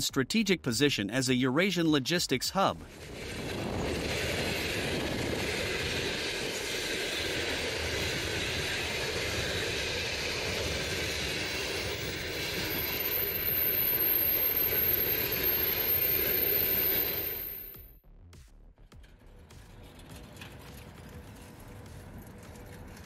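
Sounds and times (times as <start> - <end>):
train wheels rumbling on rails: 2.5 - 17.8, 18.9 - 23.0.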